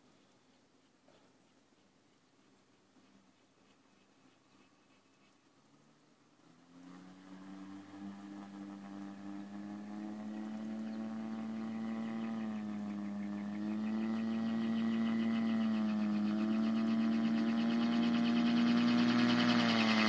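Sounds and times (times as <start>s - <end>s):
gyrocopter engine and propeller hum: 0.0s - 20.0s.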